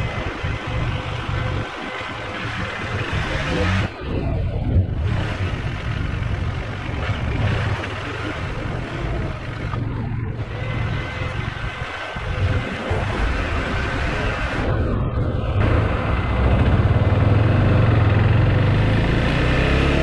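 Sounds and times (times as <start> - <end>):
motorcycle engine running: 0.0 - 4.0, 4.6 - 20.0
road noise: 0.0 - 20.0
wind noise: 0.0 - 20.0.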